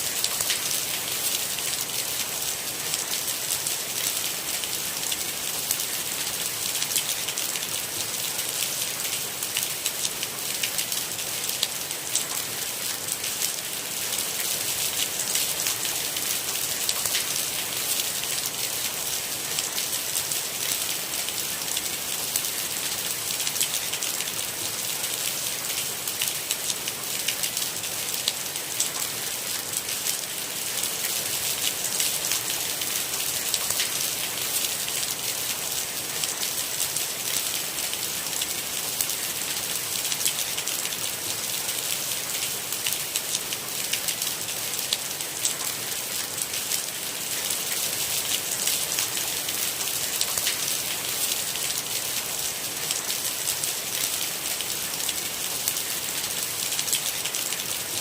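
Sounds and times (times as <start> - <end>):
rain drops ticking: 0.1 - 58.0.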